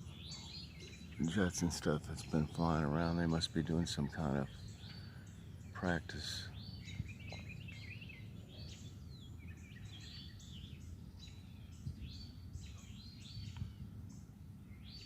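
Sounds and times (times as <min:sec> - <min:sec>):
songbirds chirping and singing: 0:00.0 - 0:15.0
steady low rumble: 0:00.0 - 0:15.0.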